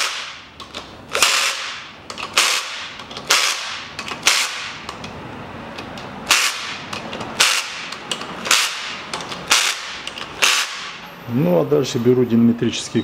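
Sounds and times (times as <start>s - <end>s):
metallic clacks of hand tools: 0.0s - 10.8s.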